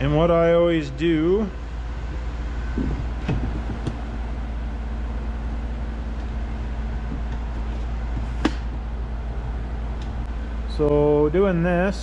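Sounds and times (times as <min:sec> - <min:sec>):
parts washer humming: 0:00.0 - 0:12.0.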